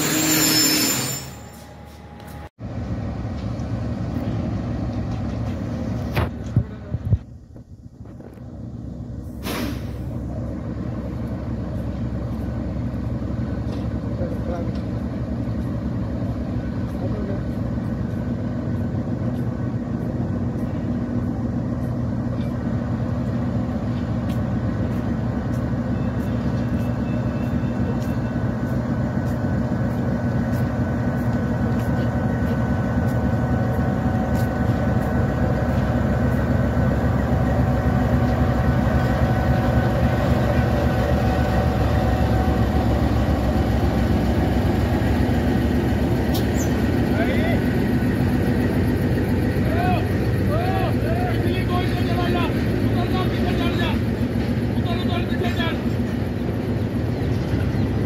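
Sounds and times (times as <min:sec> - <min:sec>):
locomotive engine drone: 0:00.0 - 0:58.0
train coaches rolling by: 0:00.0 - 0:58.0.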